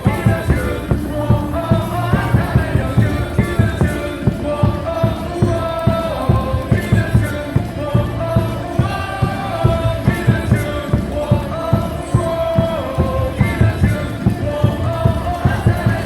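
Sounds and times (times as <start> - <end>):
cheer music over loudspeakers: 0.0 - 16.0
crowd singing along: 0.0 - 16.0.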